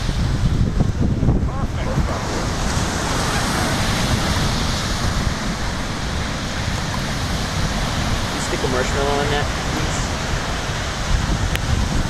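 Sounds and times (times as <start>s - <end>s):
ocean surf washing on beach: 0.0s - 12.0s
wind buffeting microphone: 0.0s - 12.0s.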